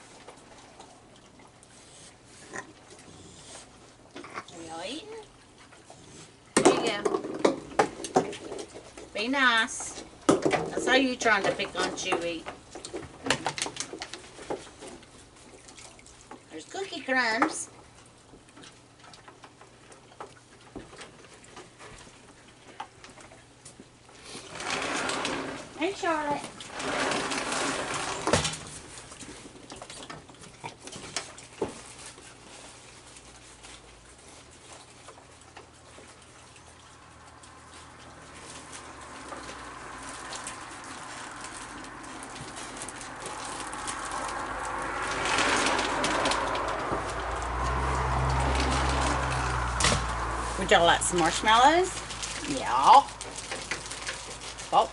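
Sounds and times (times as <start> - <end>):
animals crunching dry food: 0.0 - 54.9.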